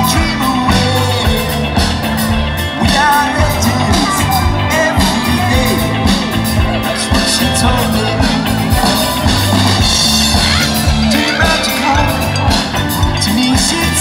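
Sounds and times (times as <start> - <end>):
drums keeping a steady beat: 0.0 - 14.0
person singing: 0.0 - 14.0
rock band playing loudly: 0.0 - 14.0.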